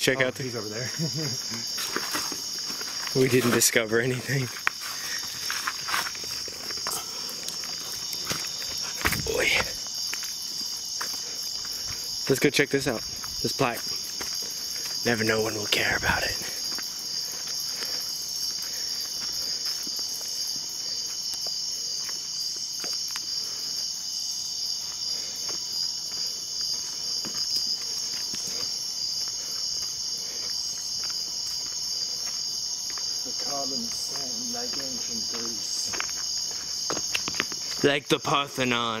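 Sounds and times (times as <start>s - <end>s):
night insects trilling: 0.0s - 39.0s.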